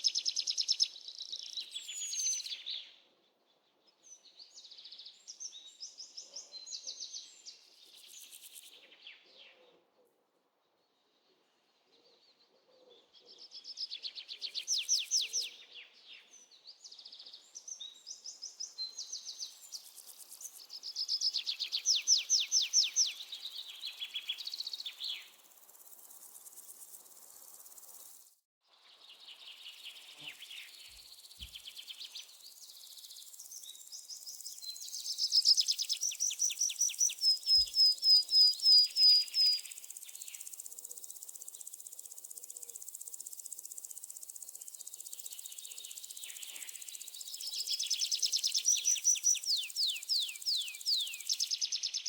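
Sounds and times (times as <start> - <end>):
songbirds singing: 0.0 - 9.9, 10.6 - 52.0.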